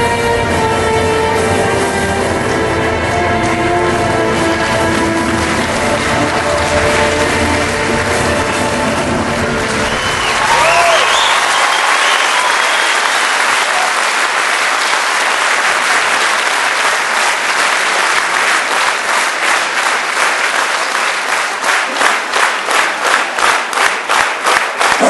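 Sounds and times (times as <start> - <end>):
rhythmic clapping in unison: 0.0 - 25.0
audience applauding: 3.1 - 25.0.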